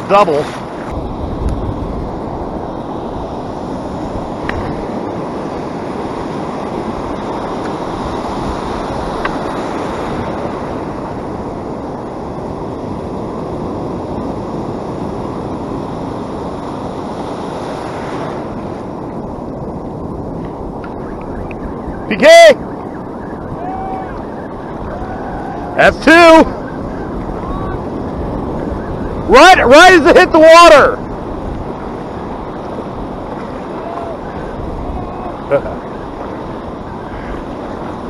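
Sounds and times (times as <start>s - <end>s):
ocean surf washing: 0.0s - 38.0s.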